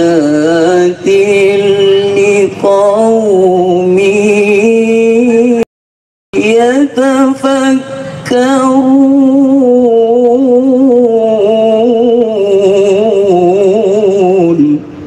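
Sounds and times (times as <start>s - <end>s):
man reciting melodically: 0.0s - 5.7s, 6.4s - 15.0s.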